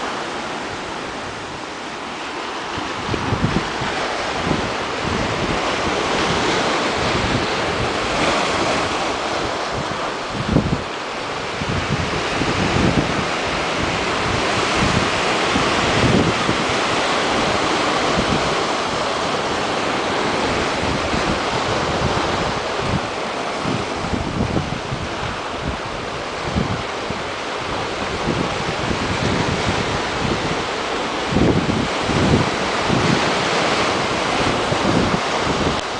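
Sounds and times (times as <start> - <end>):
waves breaking on rocky shore: 0.0 - 35.9
wind buffeting microphone: 0.0 - 35.9.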